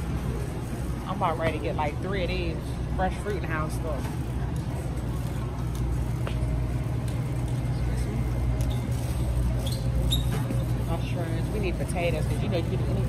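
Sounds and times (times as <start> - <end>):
shopping cart rolling: 0.0 - 13.0.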